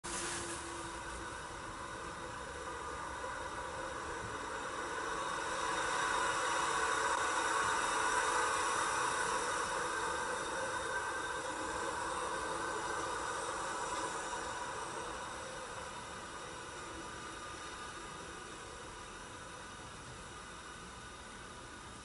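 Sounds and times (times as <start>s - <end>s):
track maintenance machine hissing: 0.0s - 21.4s
flat recording hiss: 0.0s - 22.0s.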